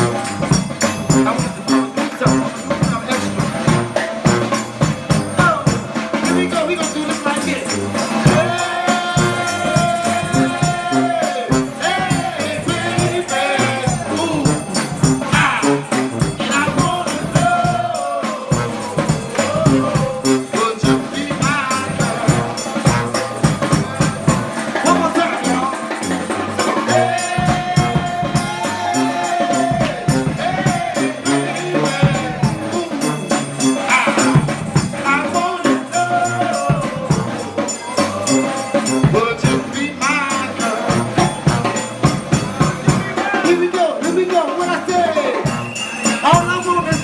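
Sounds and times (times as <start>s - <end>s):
brass band playing: 0.0s - 47.0s
tambourine shaking: 0.0s - 47.0s.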